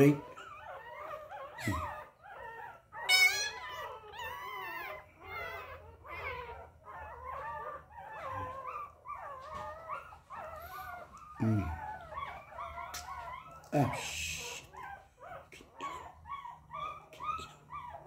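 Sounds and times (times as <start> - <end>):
puppy crying and whining: 0.0 - 18.0
puppy squealing: 0.0 - 18.0.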